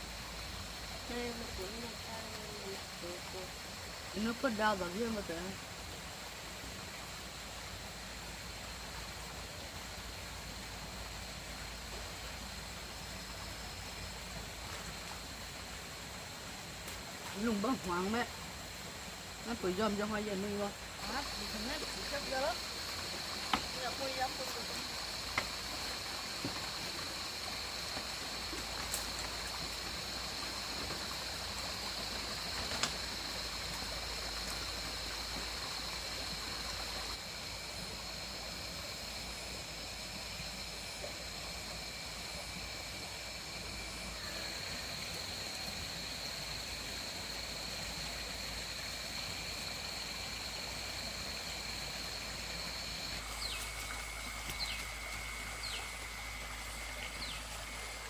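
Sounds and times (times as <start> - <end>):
high steady whine: 0.0 - 58.0
running water: 0.0 - 58.0.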